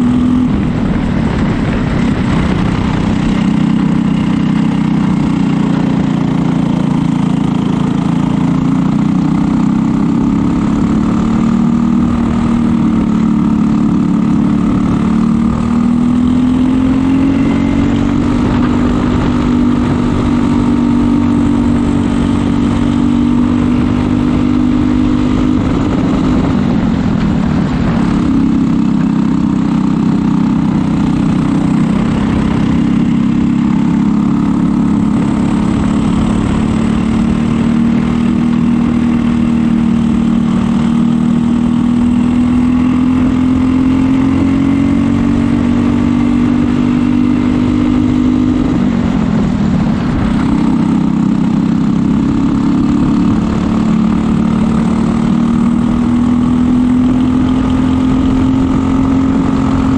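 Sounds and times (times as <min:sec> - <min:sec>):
kart engine racing: 0:00.0 - 0:59.9.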